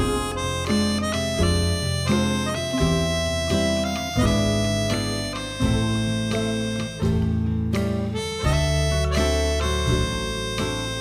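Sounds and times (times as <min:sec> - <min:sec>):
reedy instrumental music: 0:00.0 - 0:11.0.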